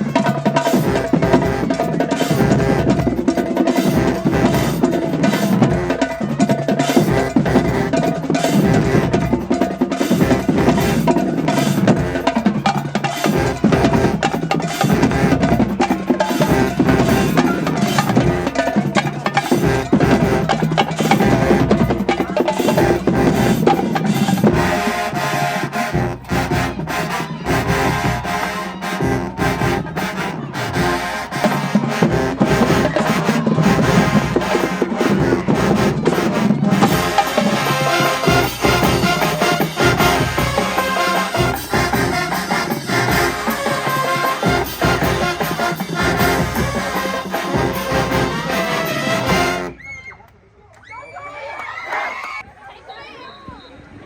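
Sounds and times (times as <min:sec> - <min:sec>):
drumline playing snare and bass drums: 0:00.0 - 0:49.8
marching band parts: 0:00.0 - 0:50.4.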